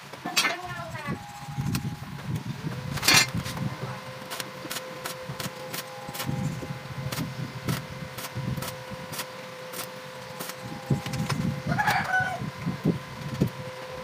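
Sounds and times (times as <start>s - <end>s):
steady low hum: 0.0s - 14.0s
welding arc crackling: 0.0s - 14.0s.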